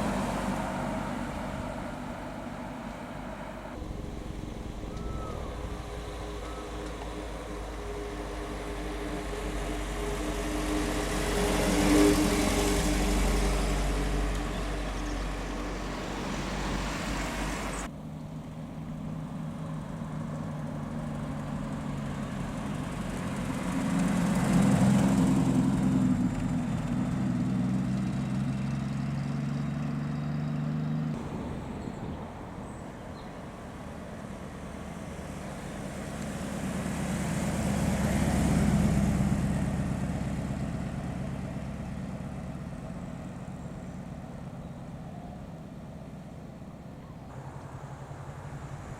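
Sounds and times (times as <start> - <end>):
car engines driving past: 0.0 - 48.9.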